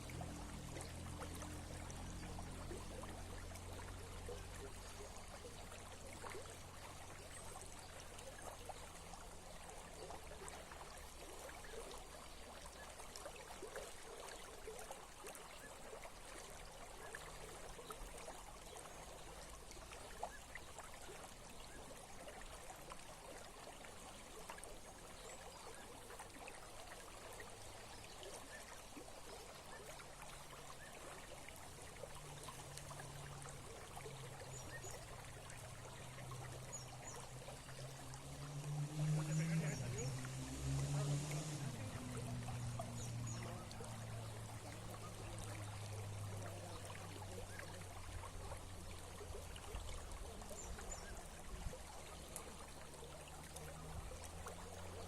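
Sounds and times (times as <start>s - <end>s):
small stream trickling: 0.0s - 55.0s.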